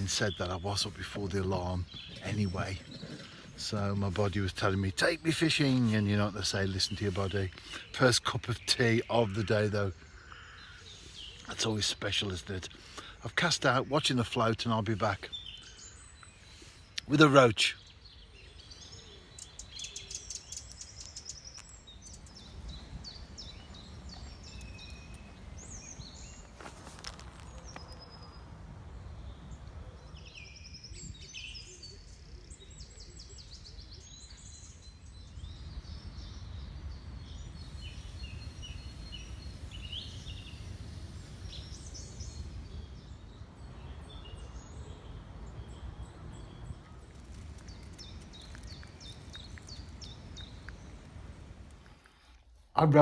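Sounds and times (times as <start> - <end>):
small birds chirping and trilling: 0.0 - 53.0.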